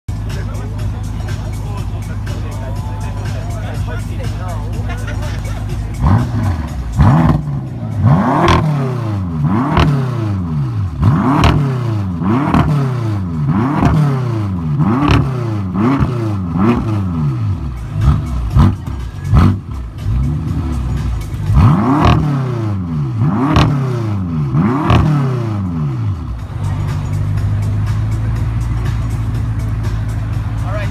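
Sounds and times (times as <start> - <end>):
car engine revving: 0.1 - 30.9
exhaust cracking: 0.1 - 30.9.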